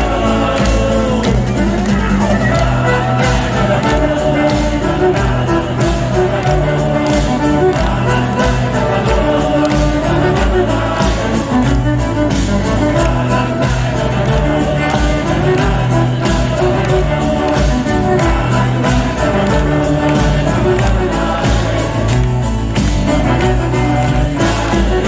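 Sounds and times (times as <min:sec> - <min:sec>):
live rock band playing: 0:00.0 - 0:25.0
steady drum beat: 0:00.0 - 0:25.0.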